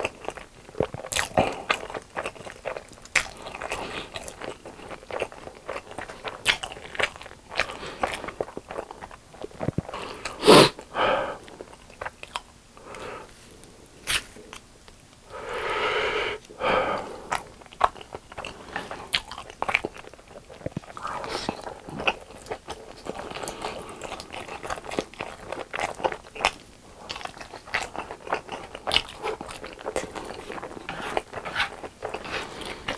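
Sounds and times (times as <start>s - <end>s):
biting and chewing crunches: 0.0s - 15.2s, 16.4s - 32.9s.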